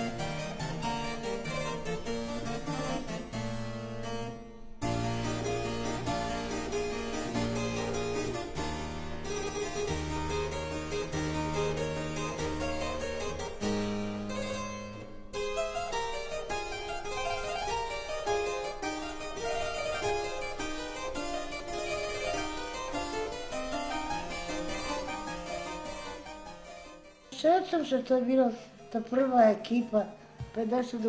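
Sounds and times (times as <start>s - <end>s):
harpsichord music: 0.0s - 31.0s.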